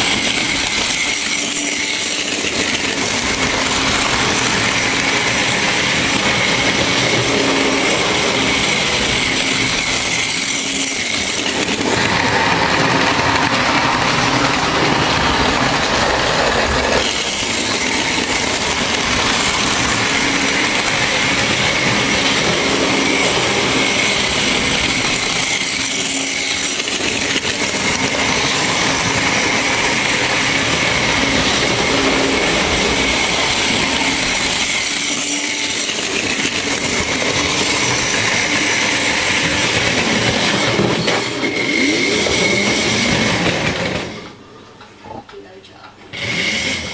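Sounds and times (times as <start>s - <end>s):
model train rumbling on track: 0.0s - 44.4s.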